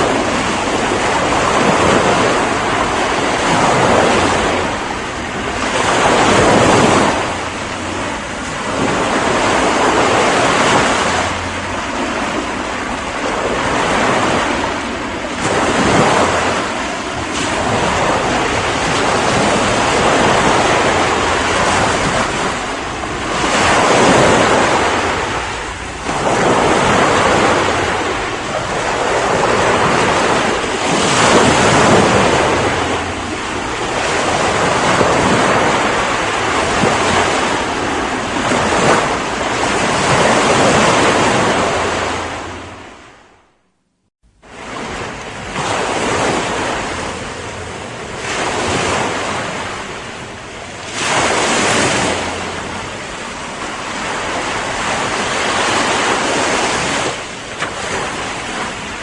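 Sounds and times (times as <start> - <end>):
ocean waves breaking: 0.0 - 43.6, 44.3 - 59.0.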